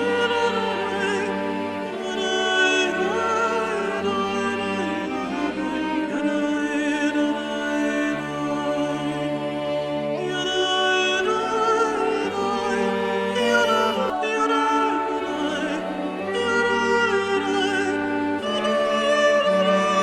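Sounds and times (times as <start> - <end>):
classical operatic music: 0.0 - 20.0.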